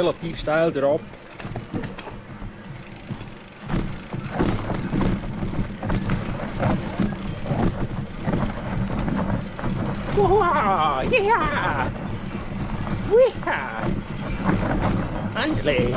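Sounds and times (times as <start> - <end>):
bike rattling: 0.0 - 15.9
bike tyres on dirt: 0.0 - 15.9.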